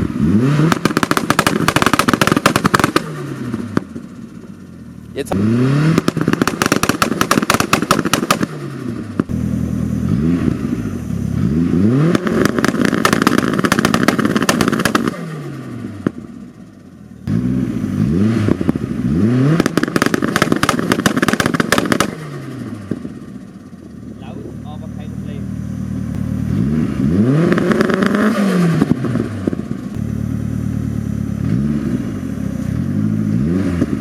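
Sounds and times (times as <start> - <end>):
car engine revving hard: 0.0 - 3.8, 5.2 - 16.2, 17.2 - 23.0, 26.3 - 30.3, 31.2 - 34.0
exhaust crackling and popping: 0.0 - 34.0.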